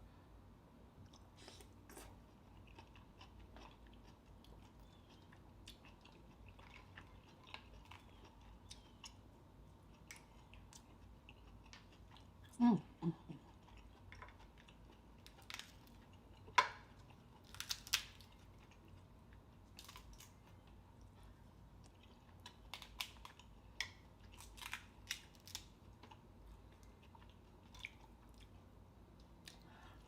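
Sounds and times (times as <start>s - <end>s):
chewing and crunching seafood: 1.1s - 30.0s.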